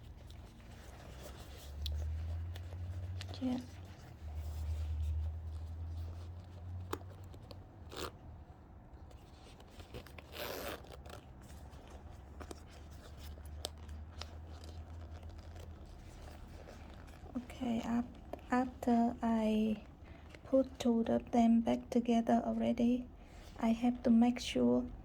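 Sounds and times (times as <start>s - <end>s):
zipper clicks and rustles: 0.0s - 20.8s.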